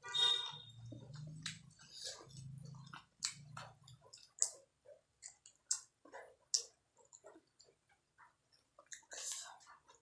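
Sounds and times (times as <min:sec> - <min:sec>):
wet chewing and lip smacks: 0:01.0 - 0:10.0.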